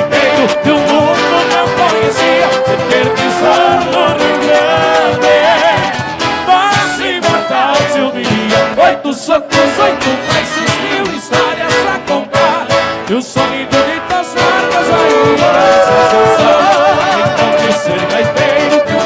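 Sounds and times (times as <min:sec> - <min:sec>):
accordion and guitars playing: 0:00.0 - 0:19.0.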